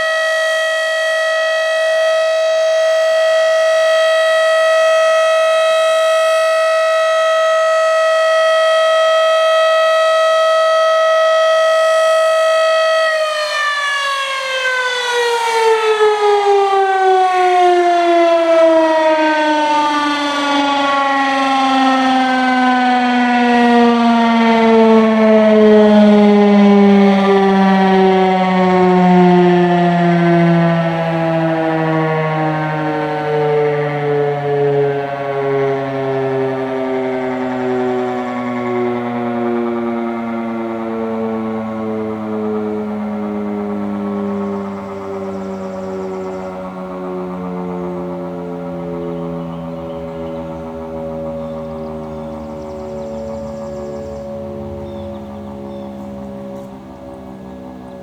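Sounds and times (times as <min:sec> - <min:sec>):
civil defense siren winding down: 0:00.0 - 0:58.0.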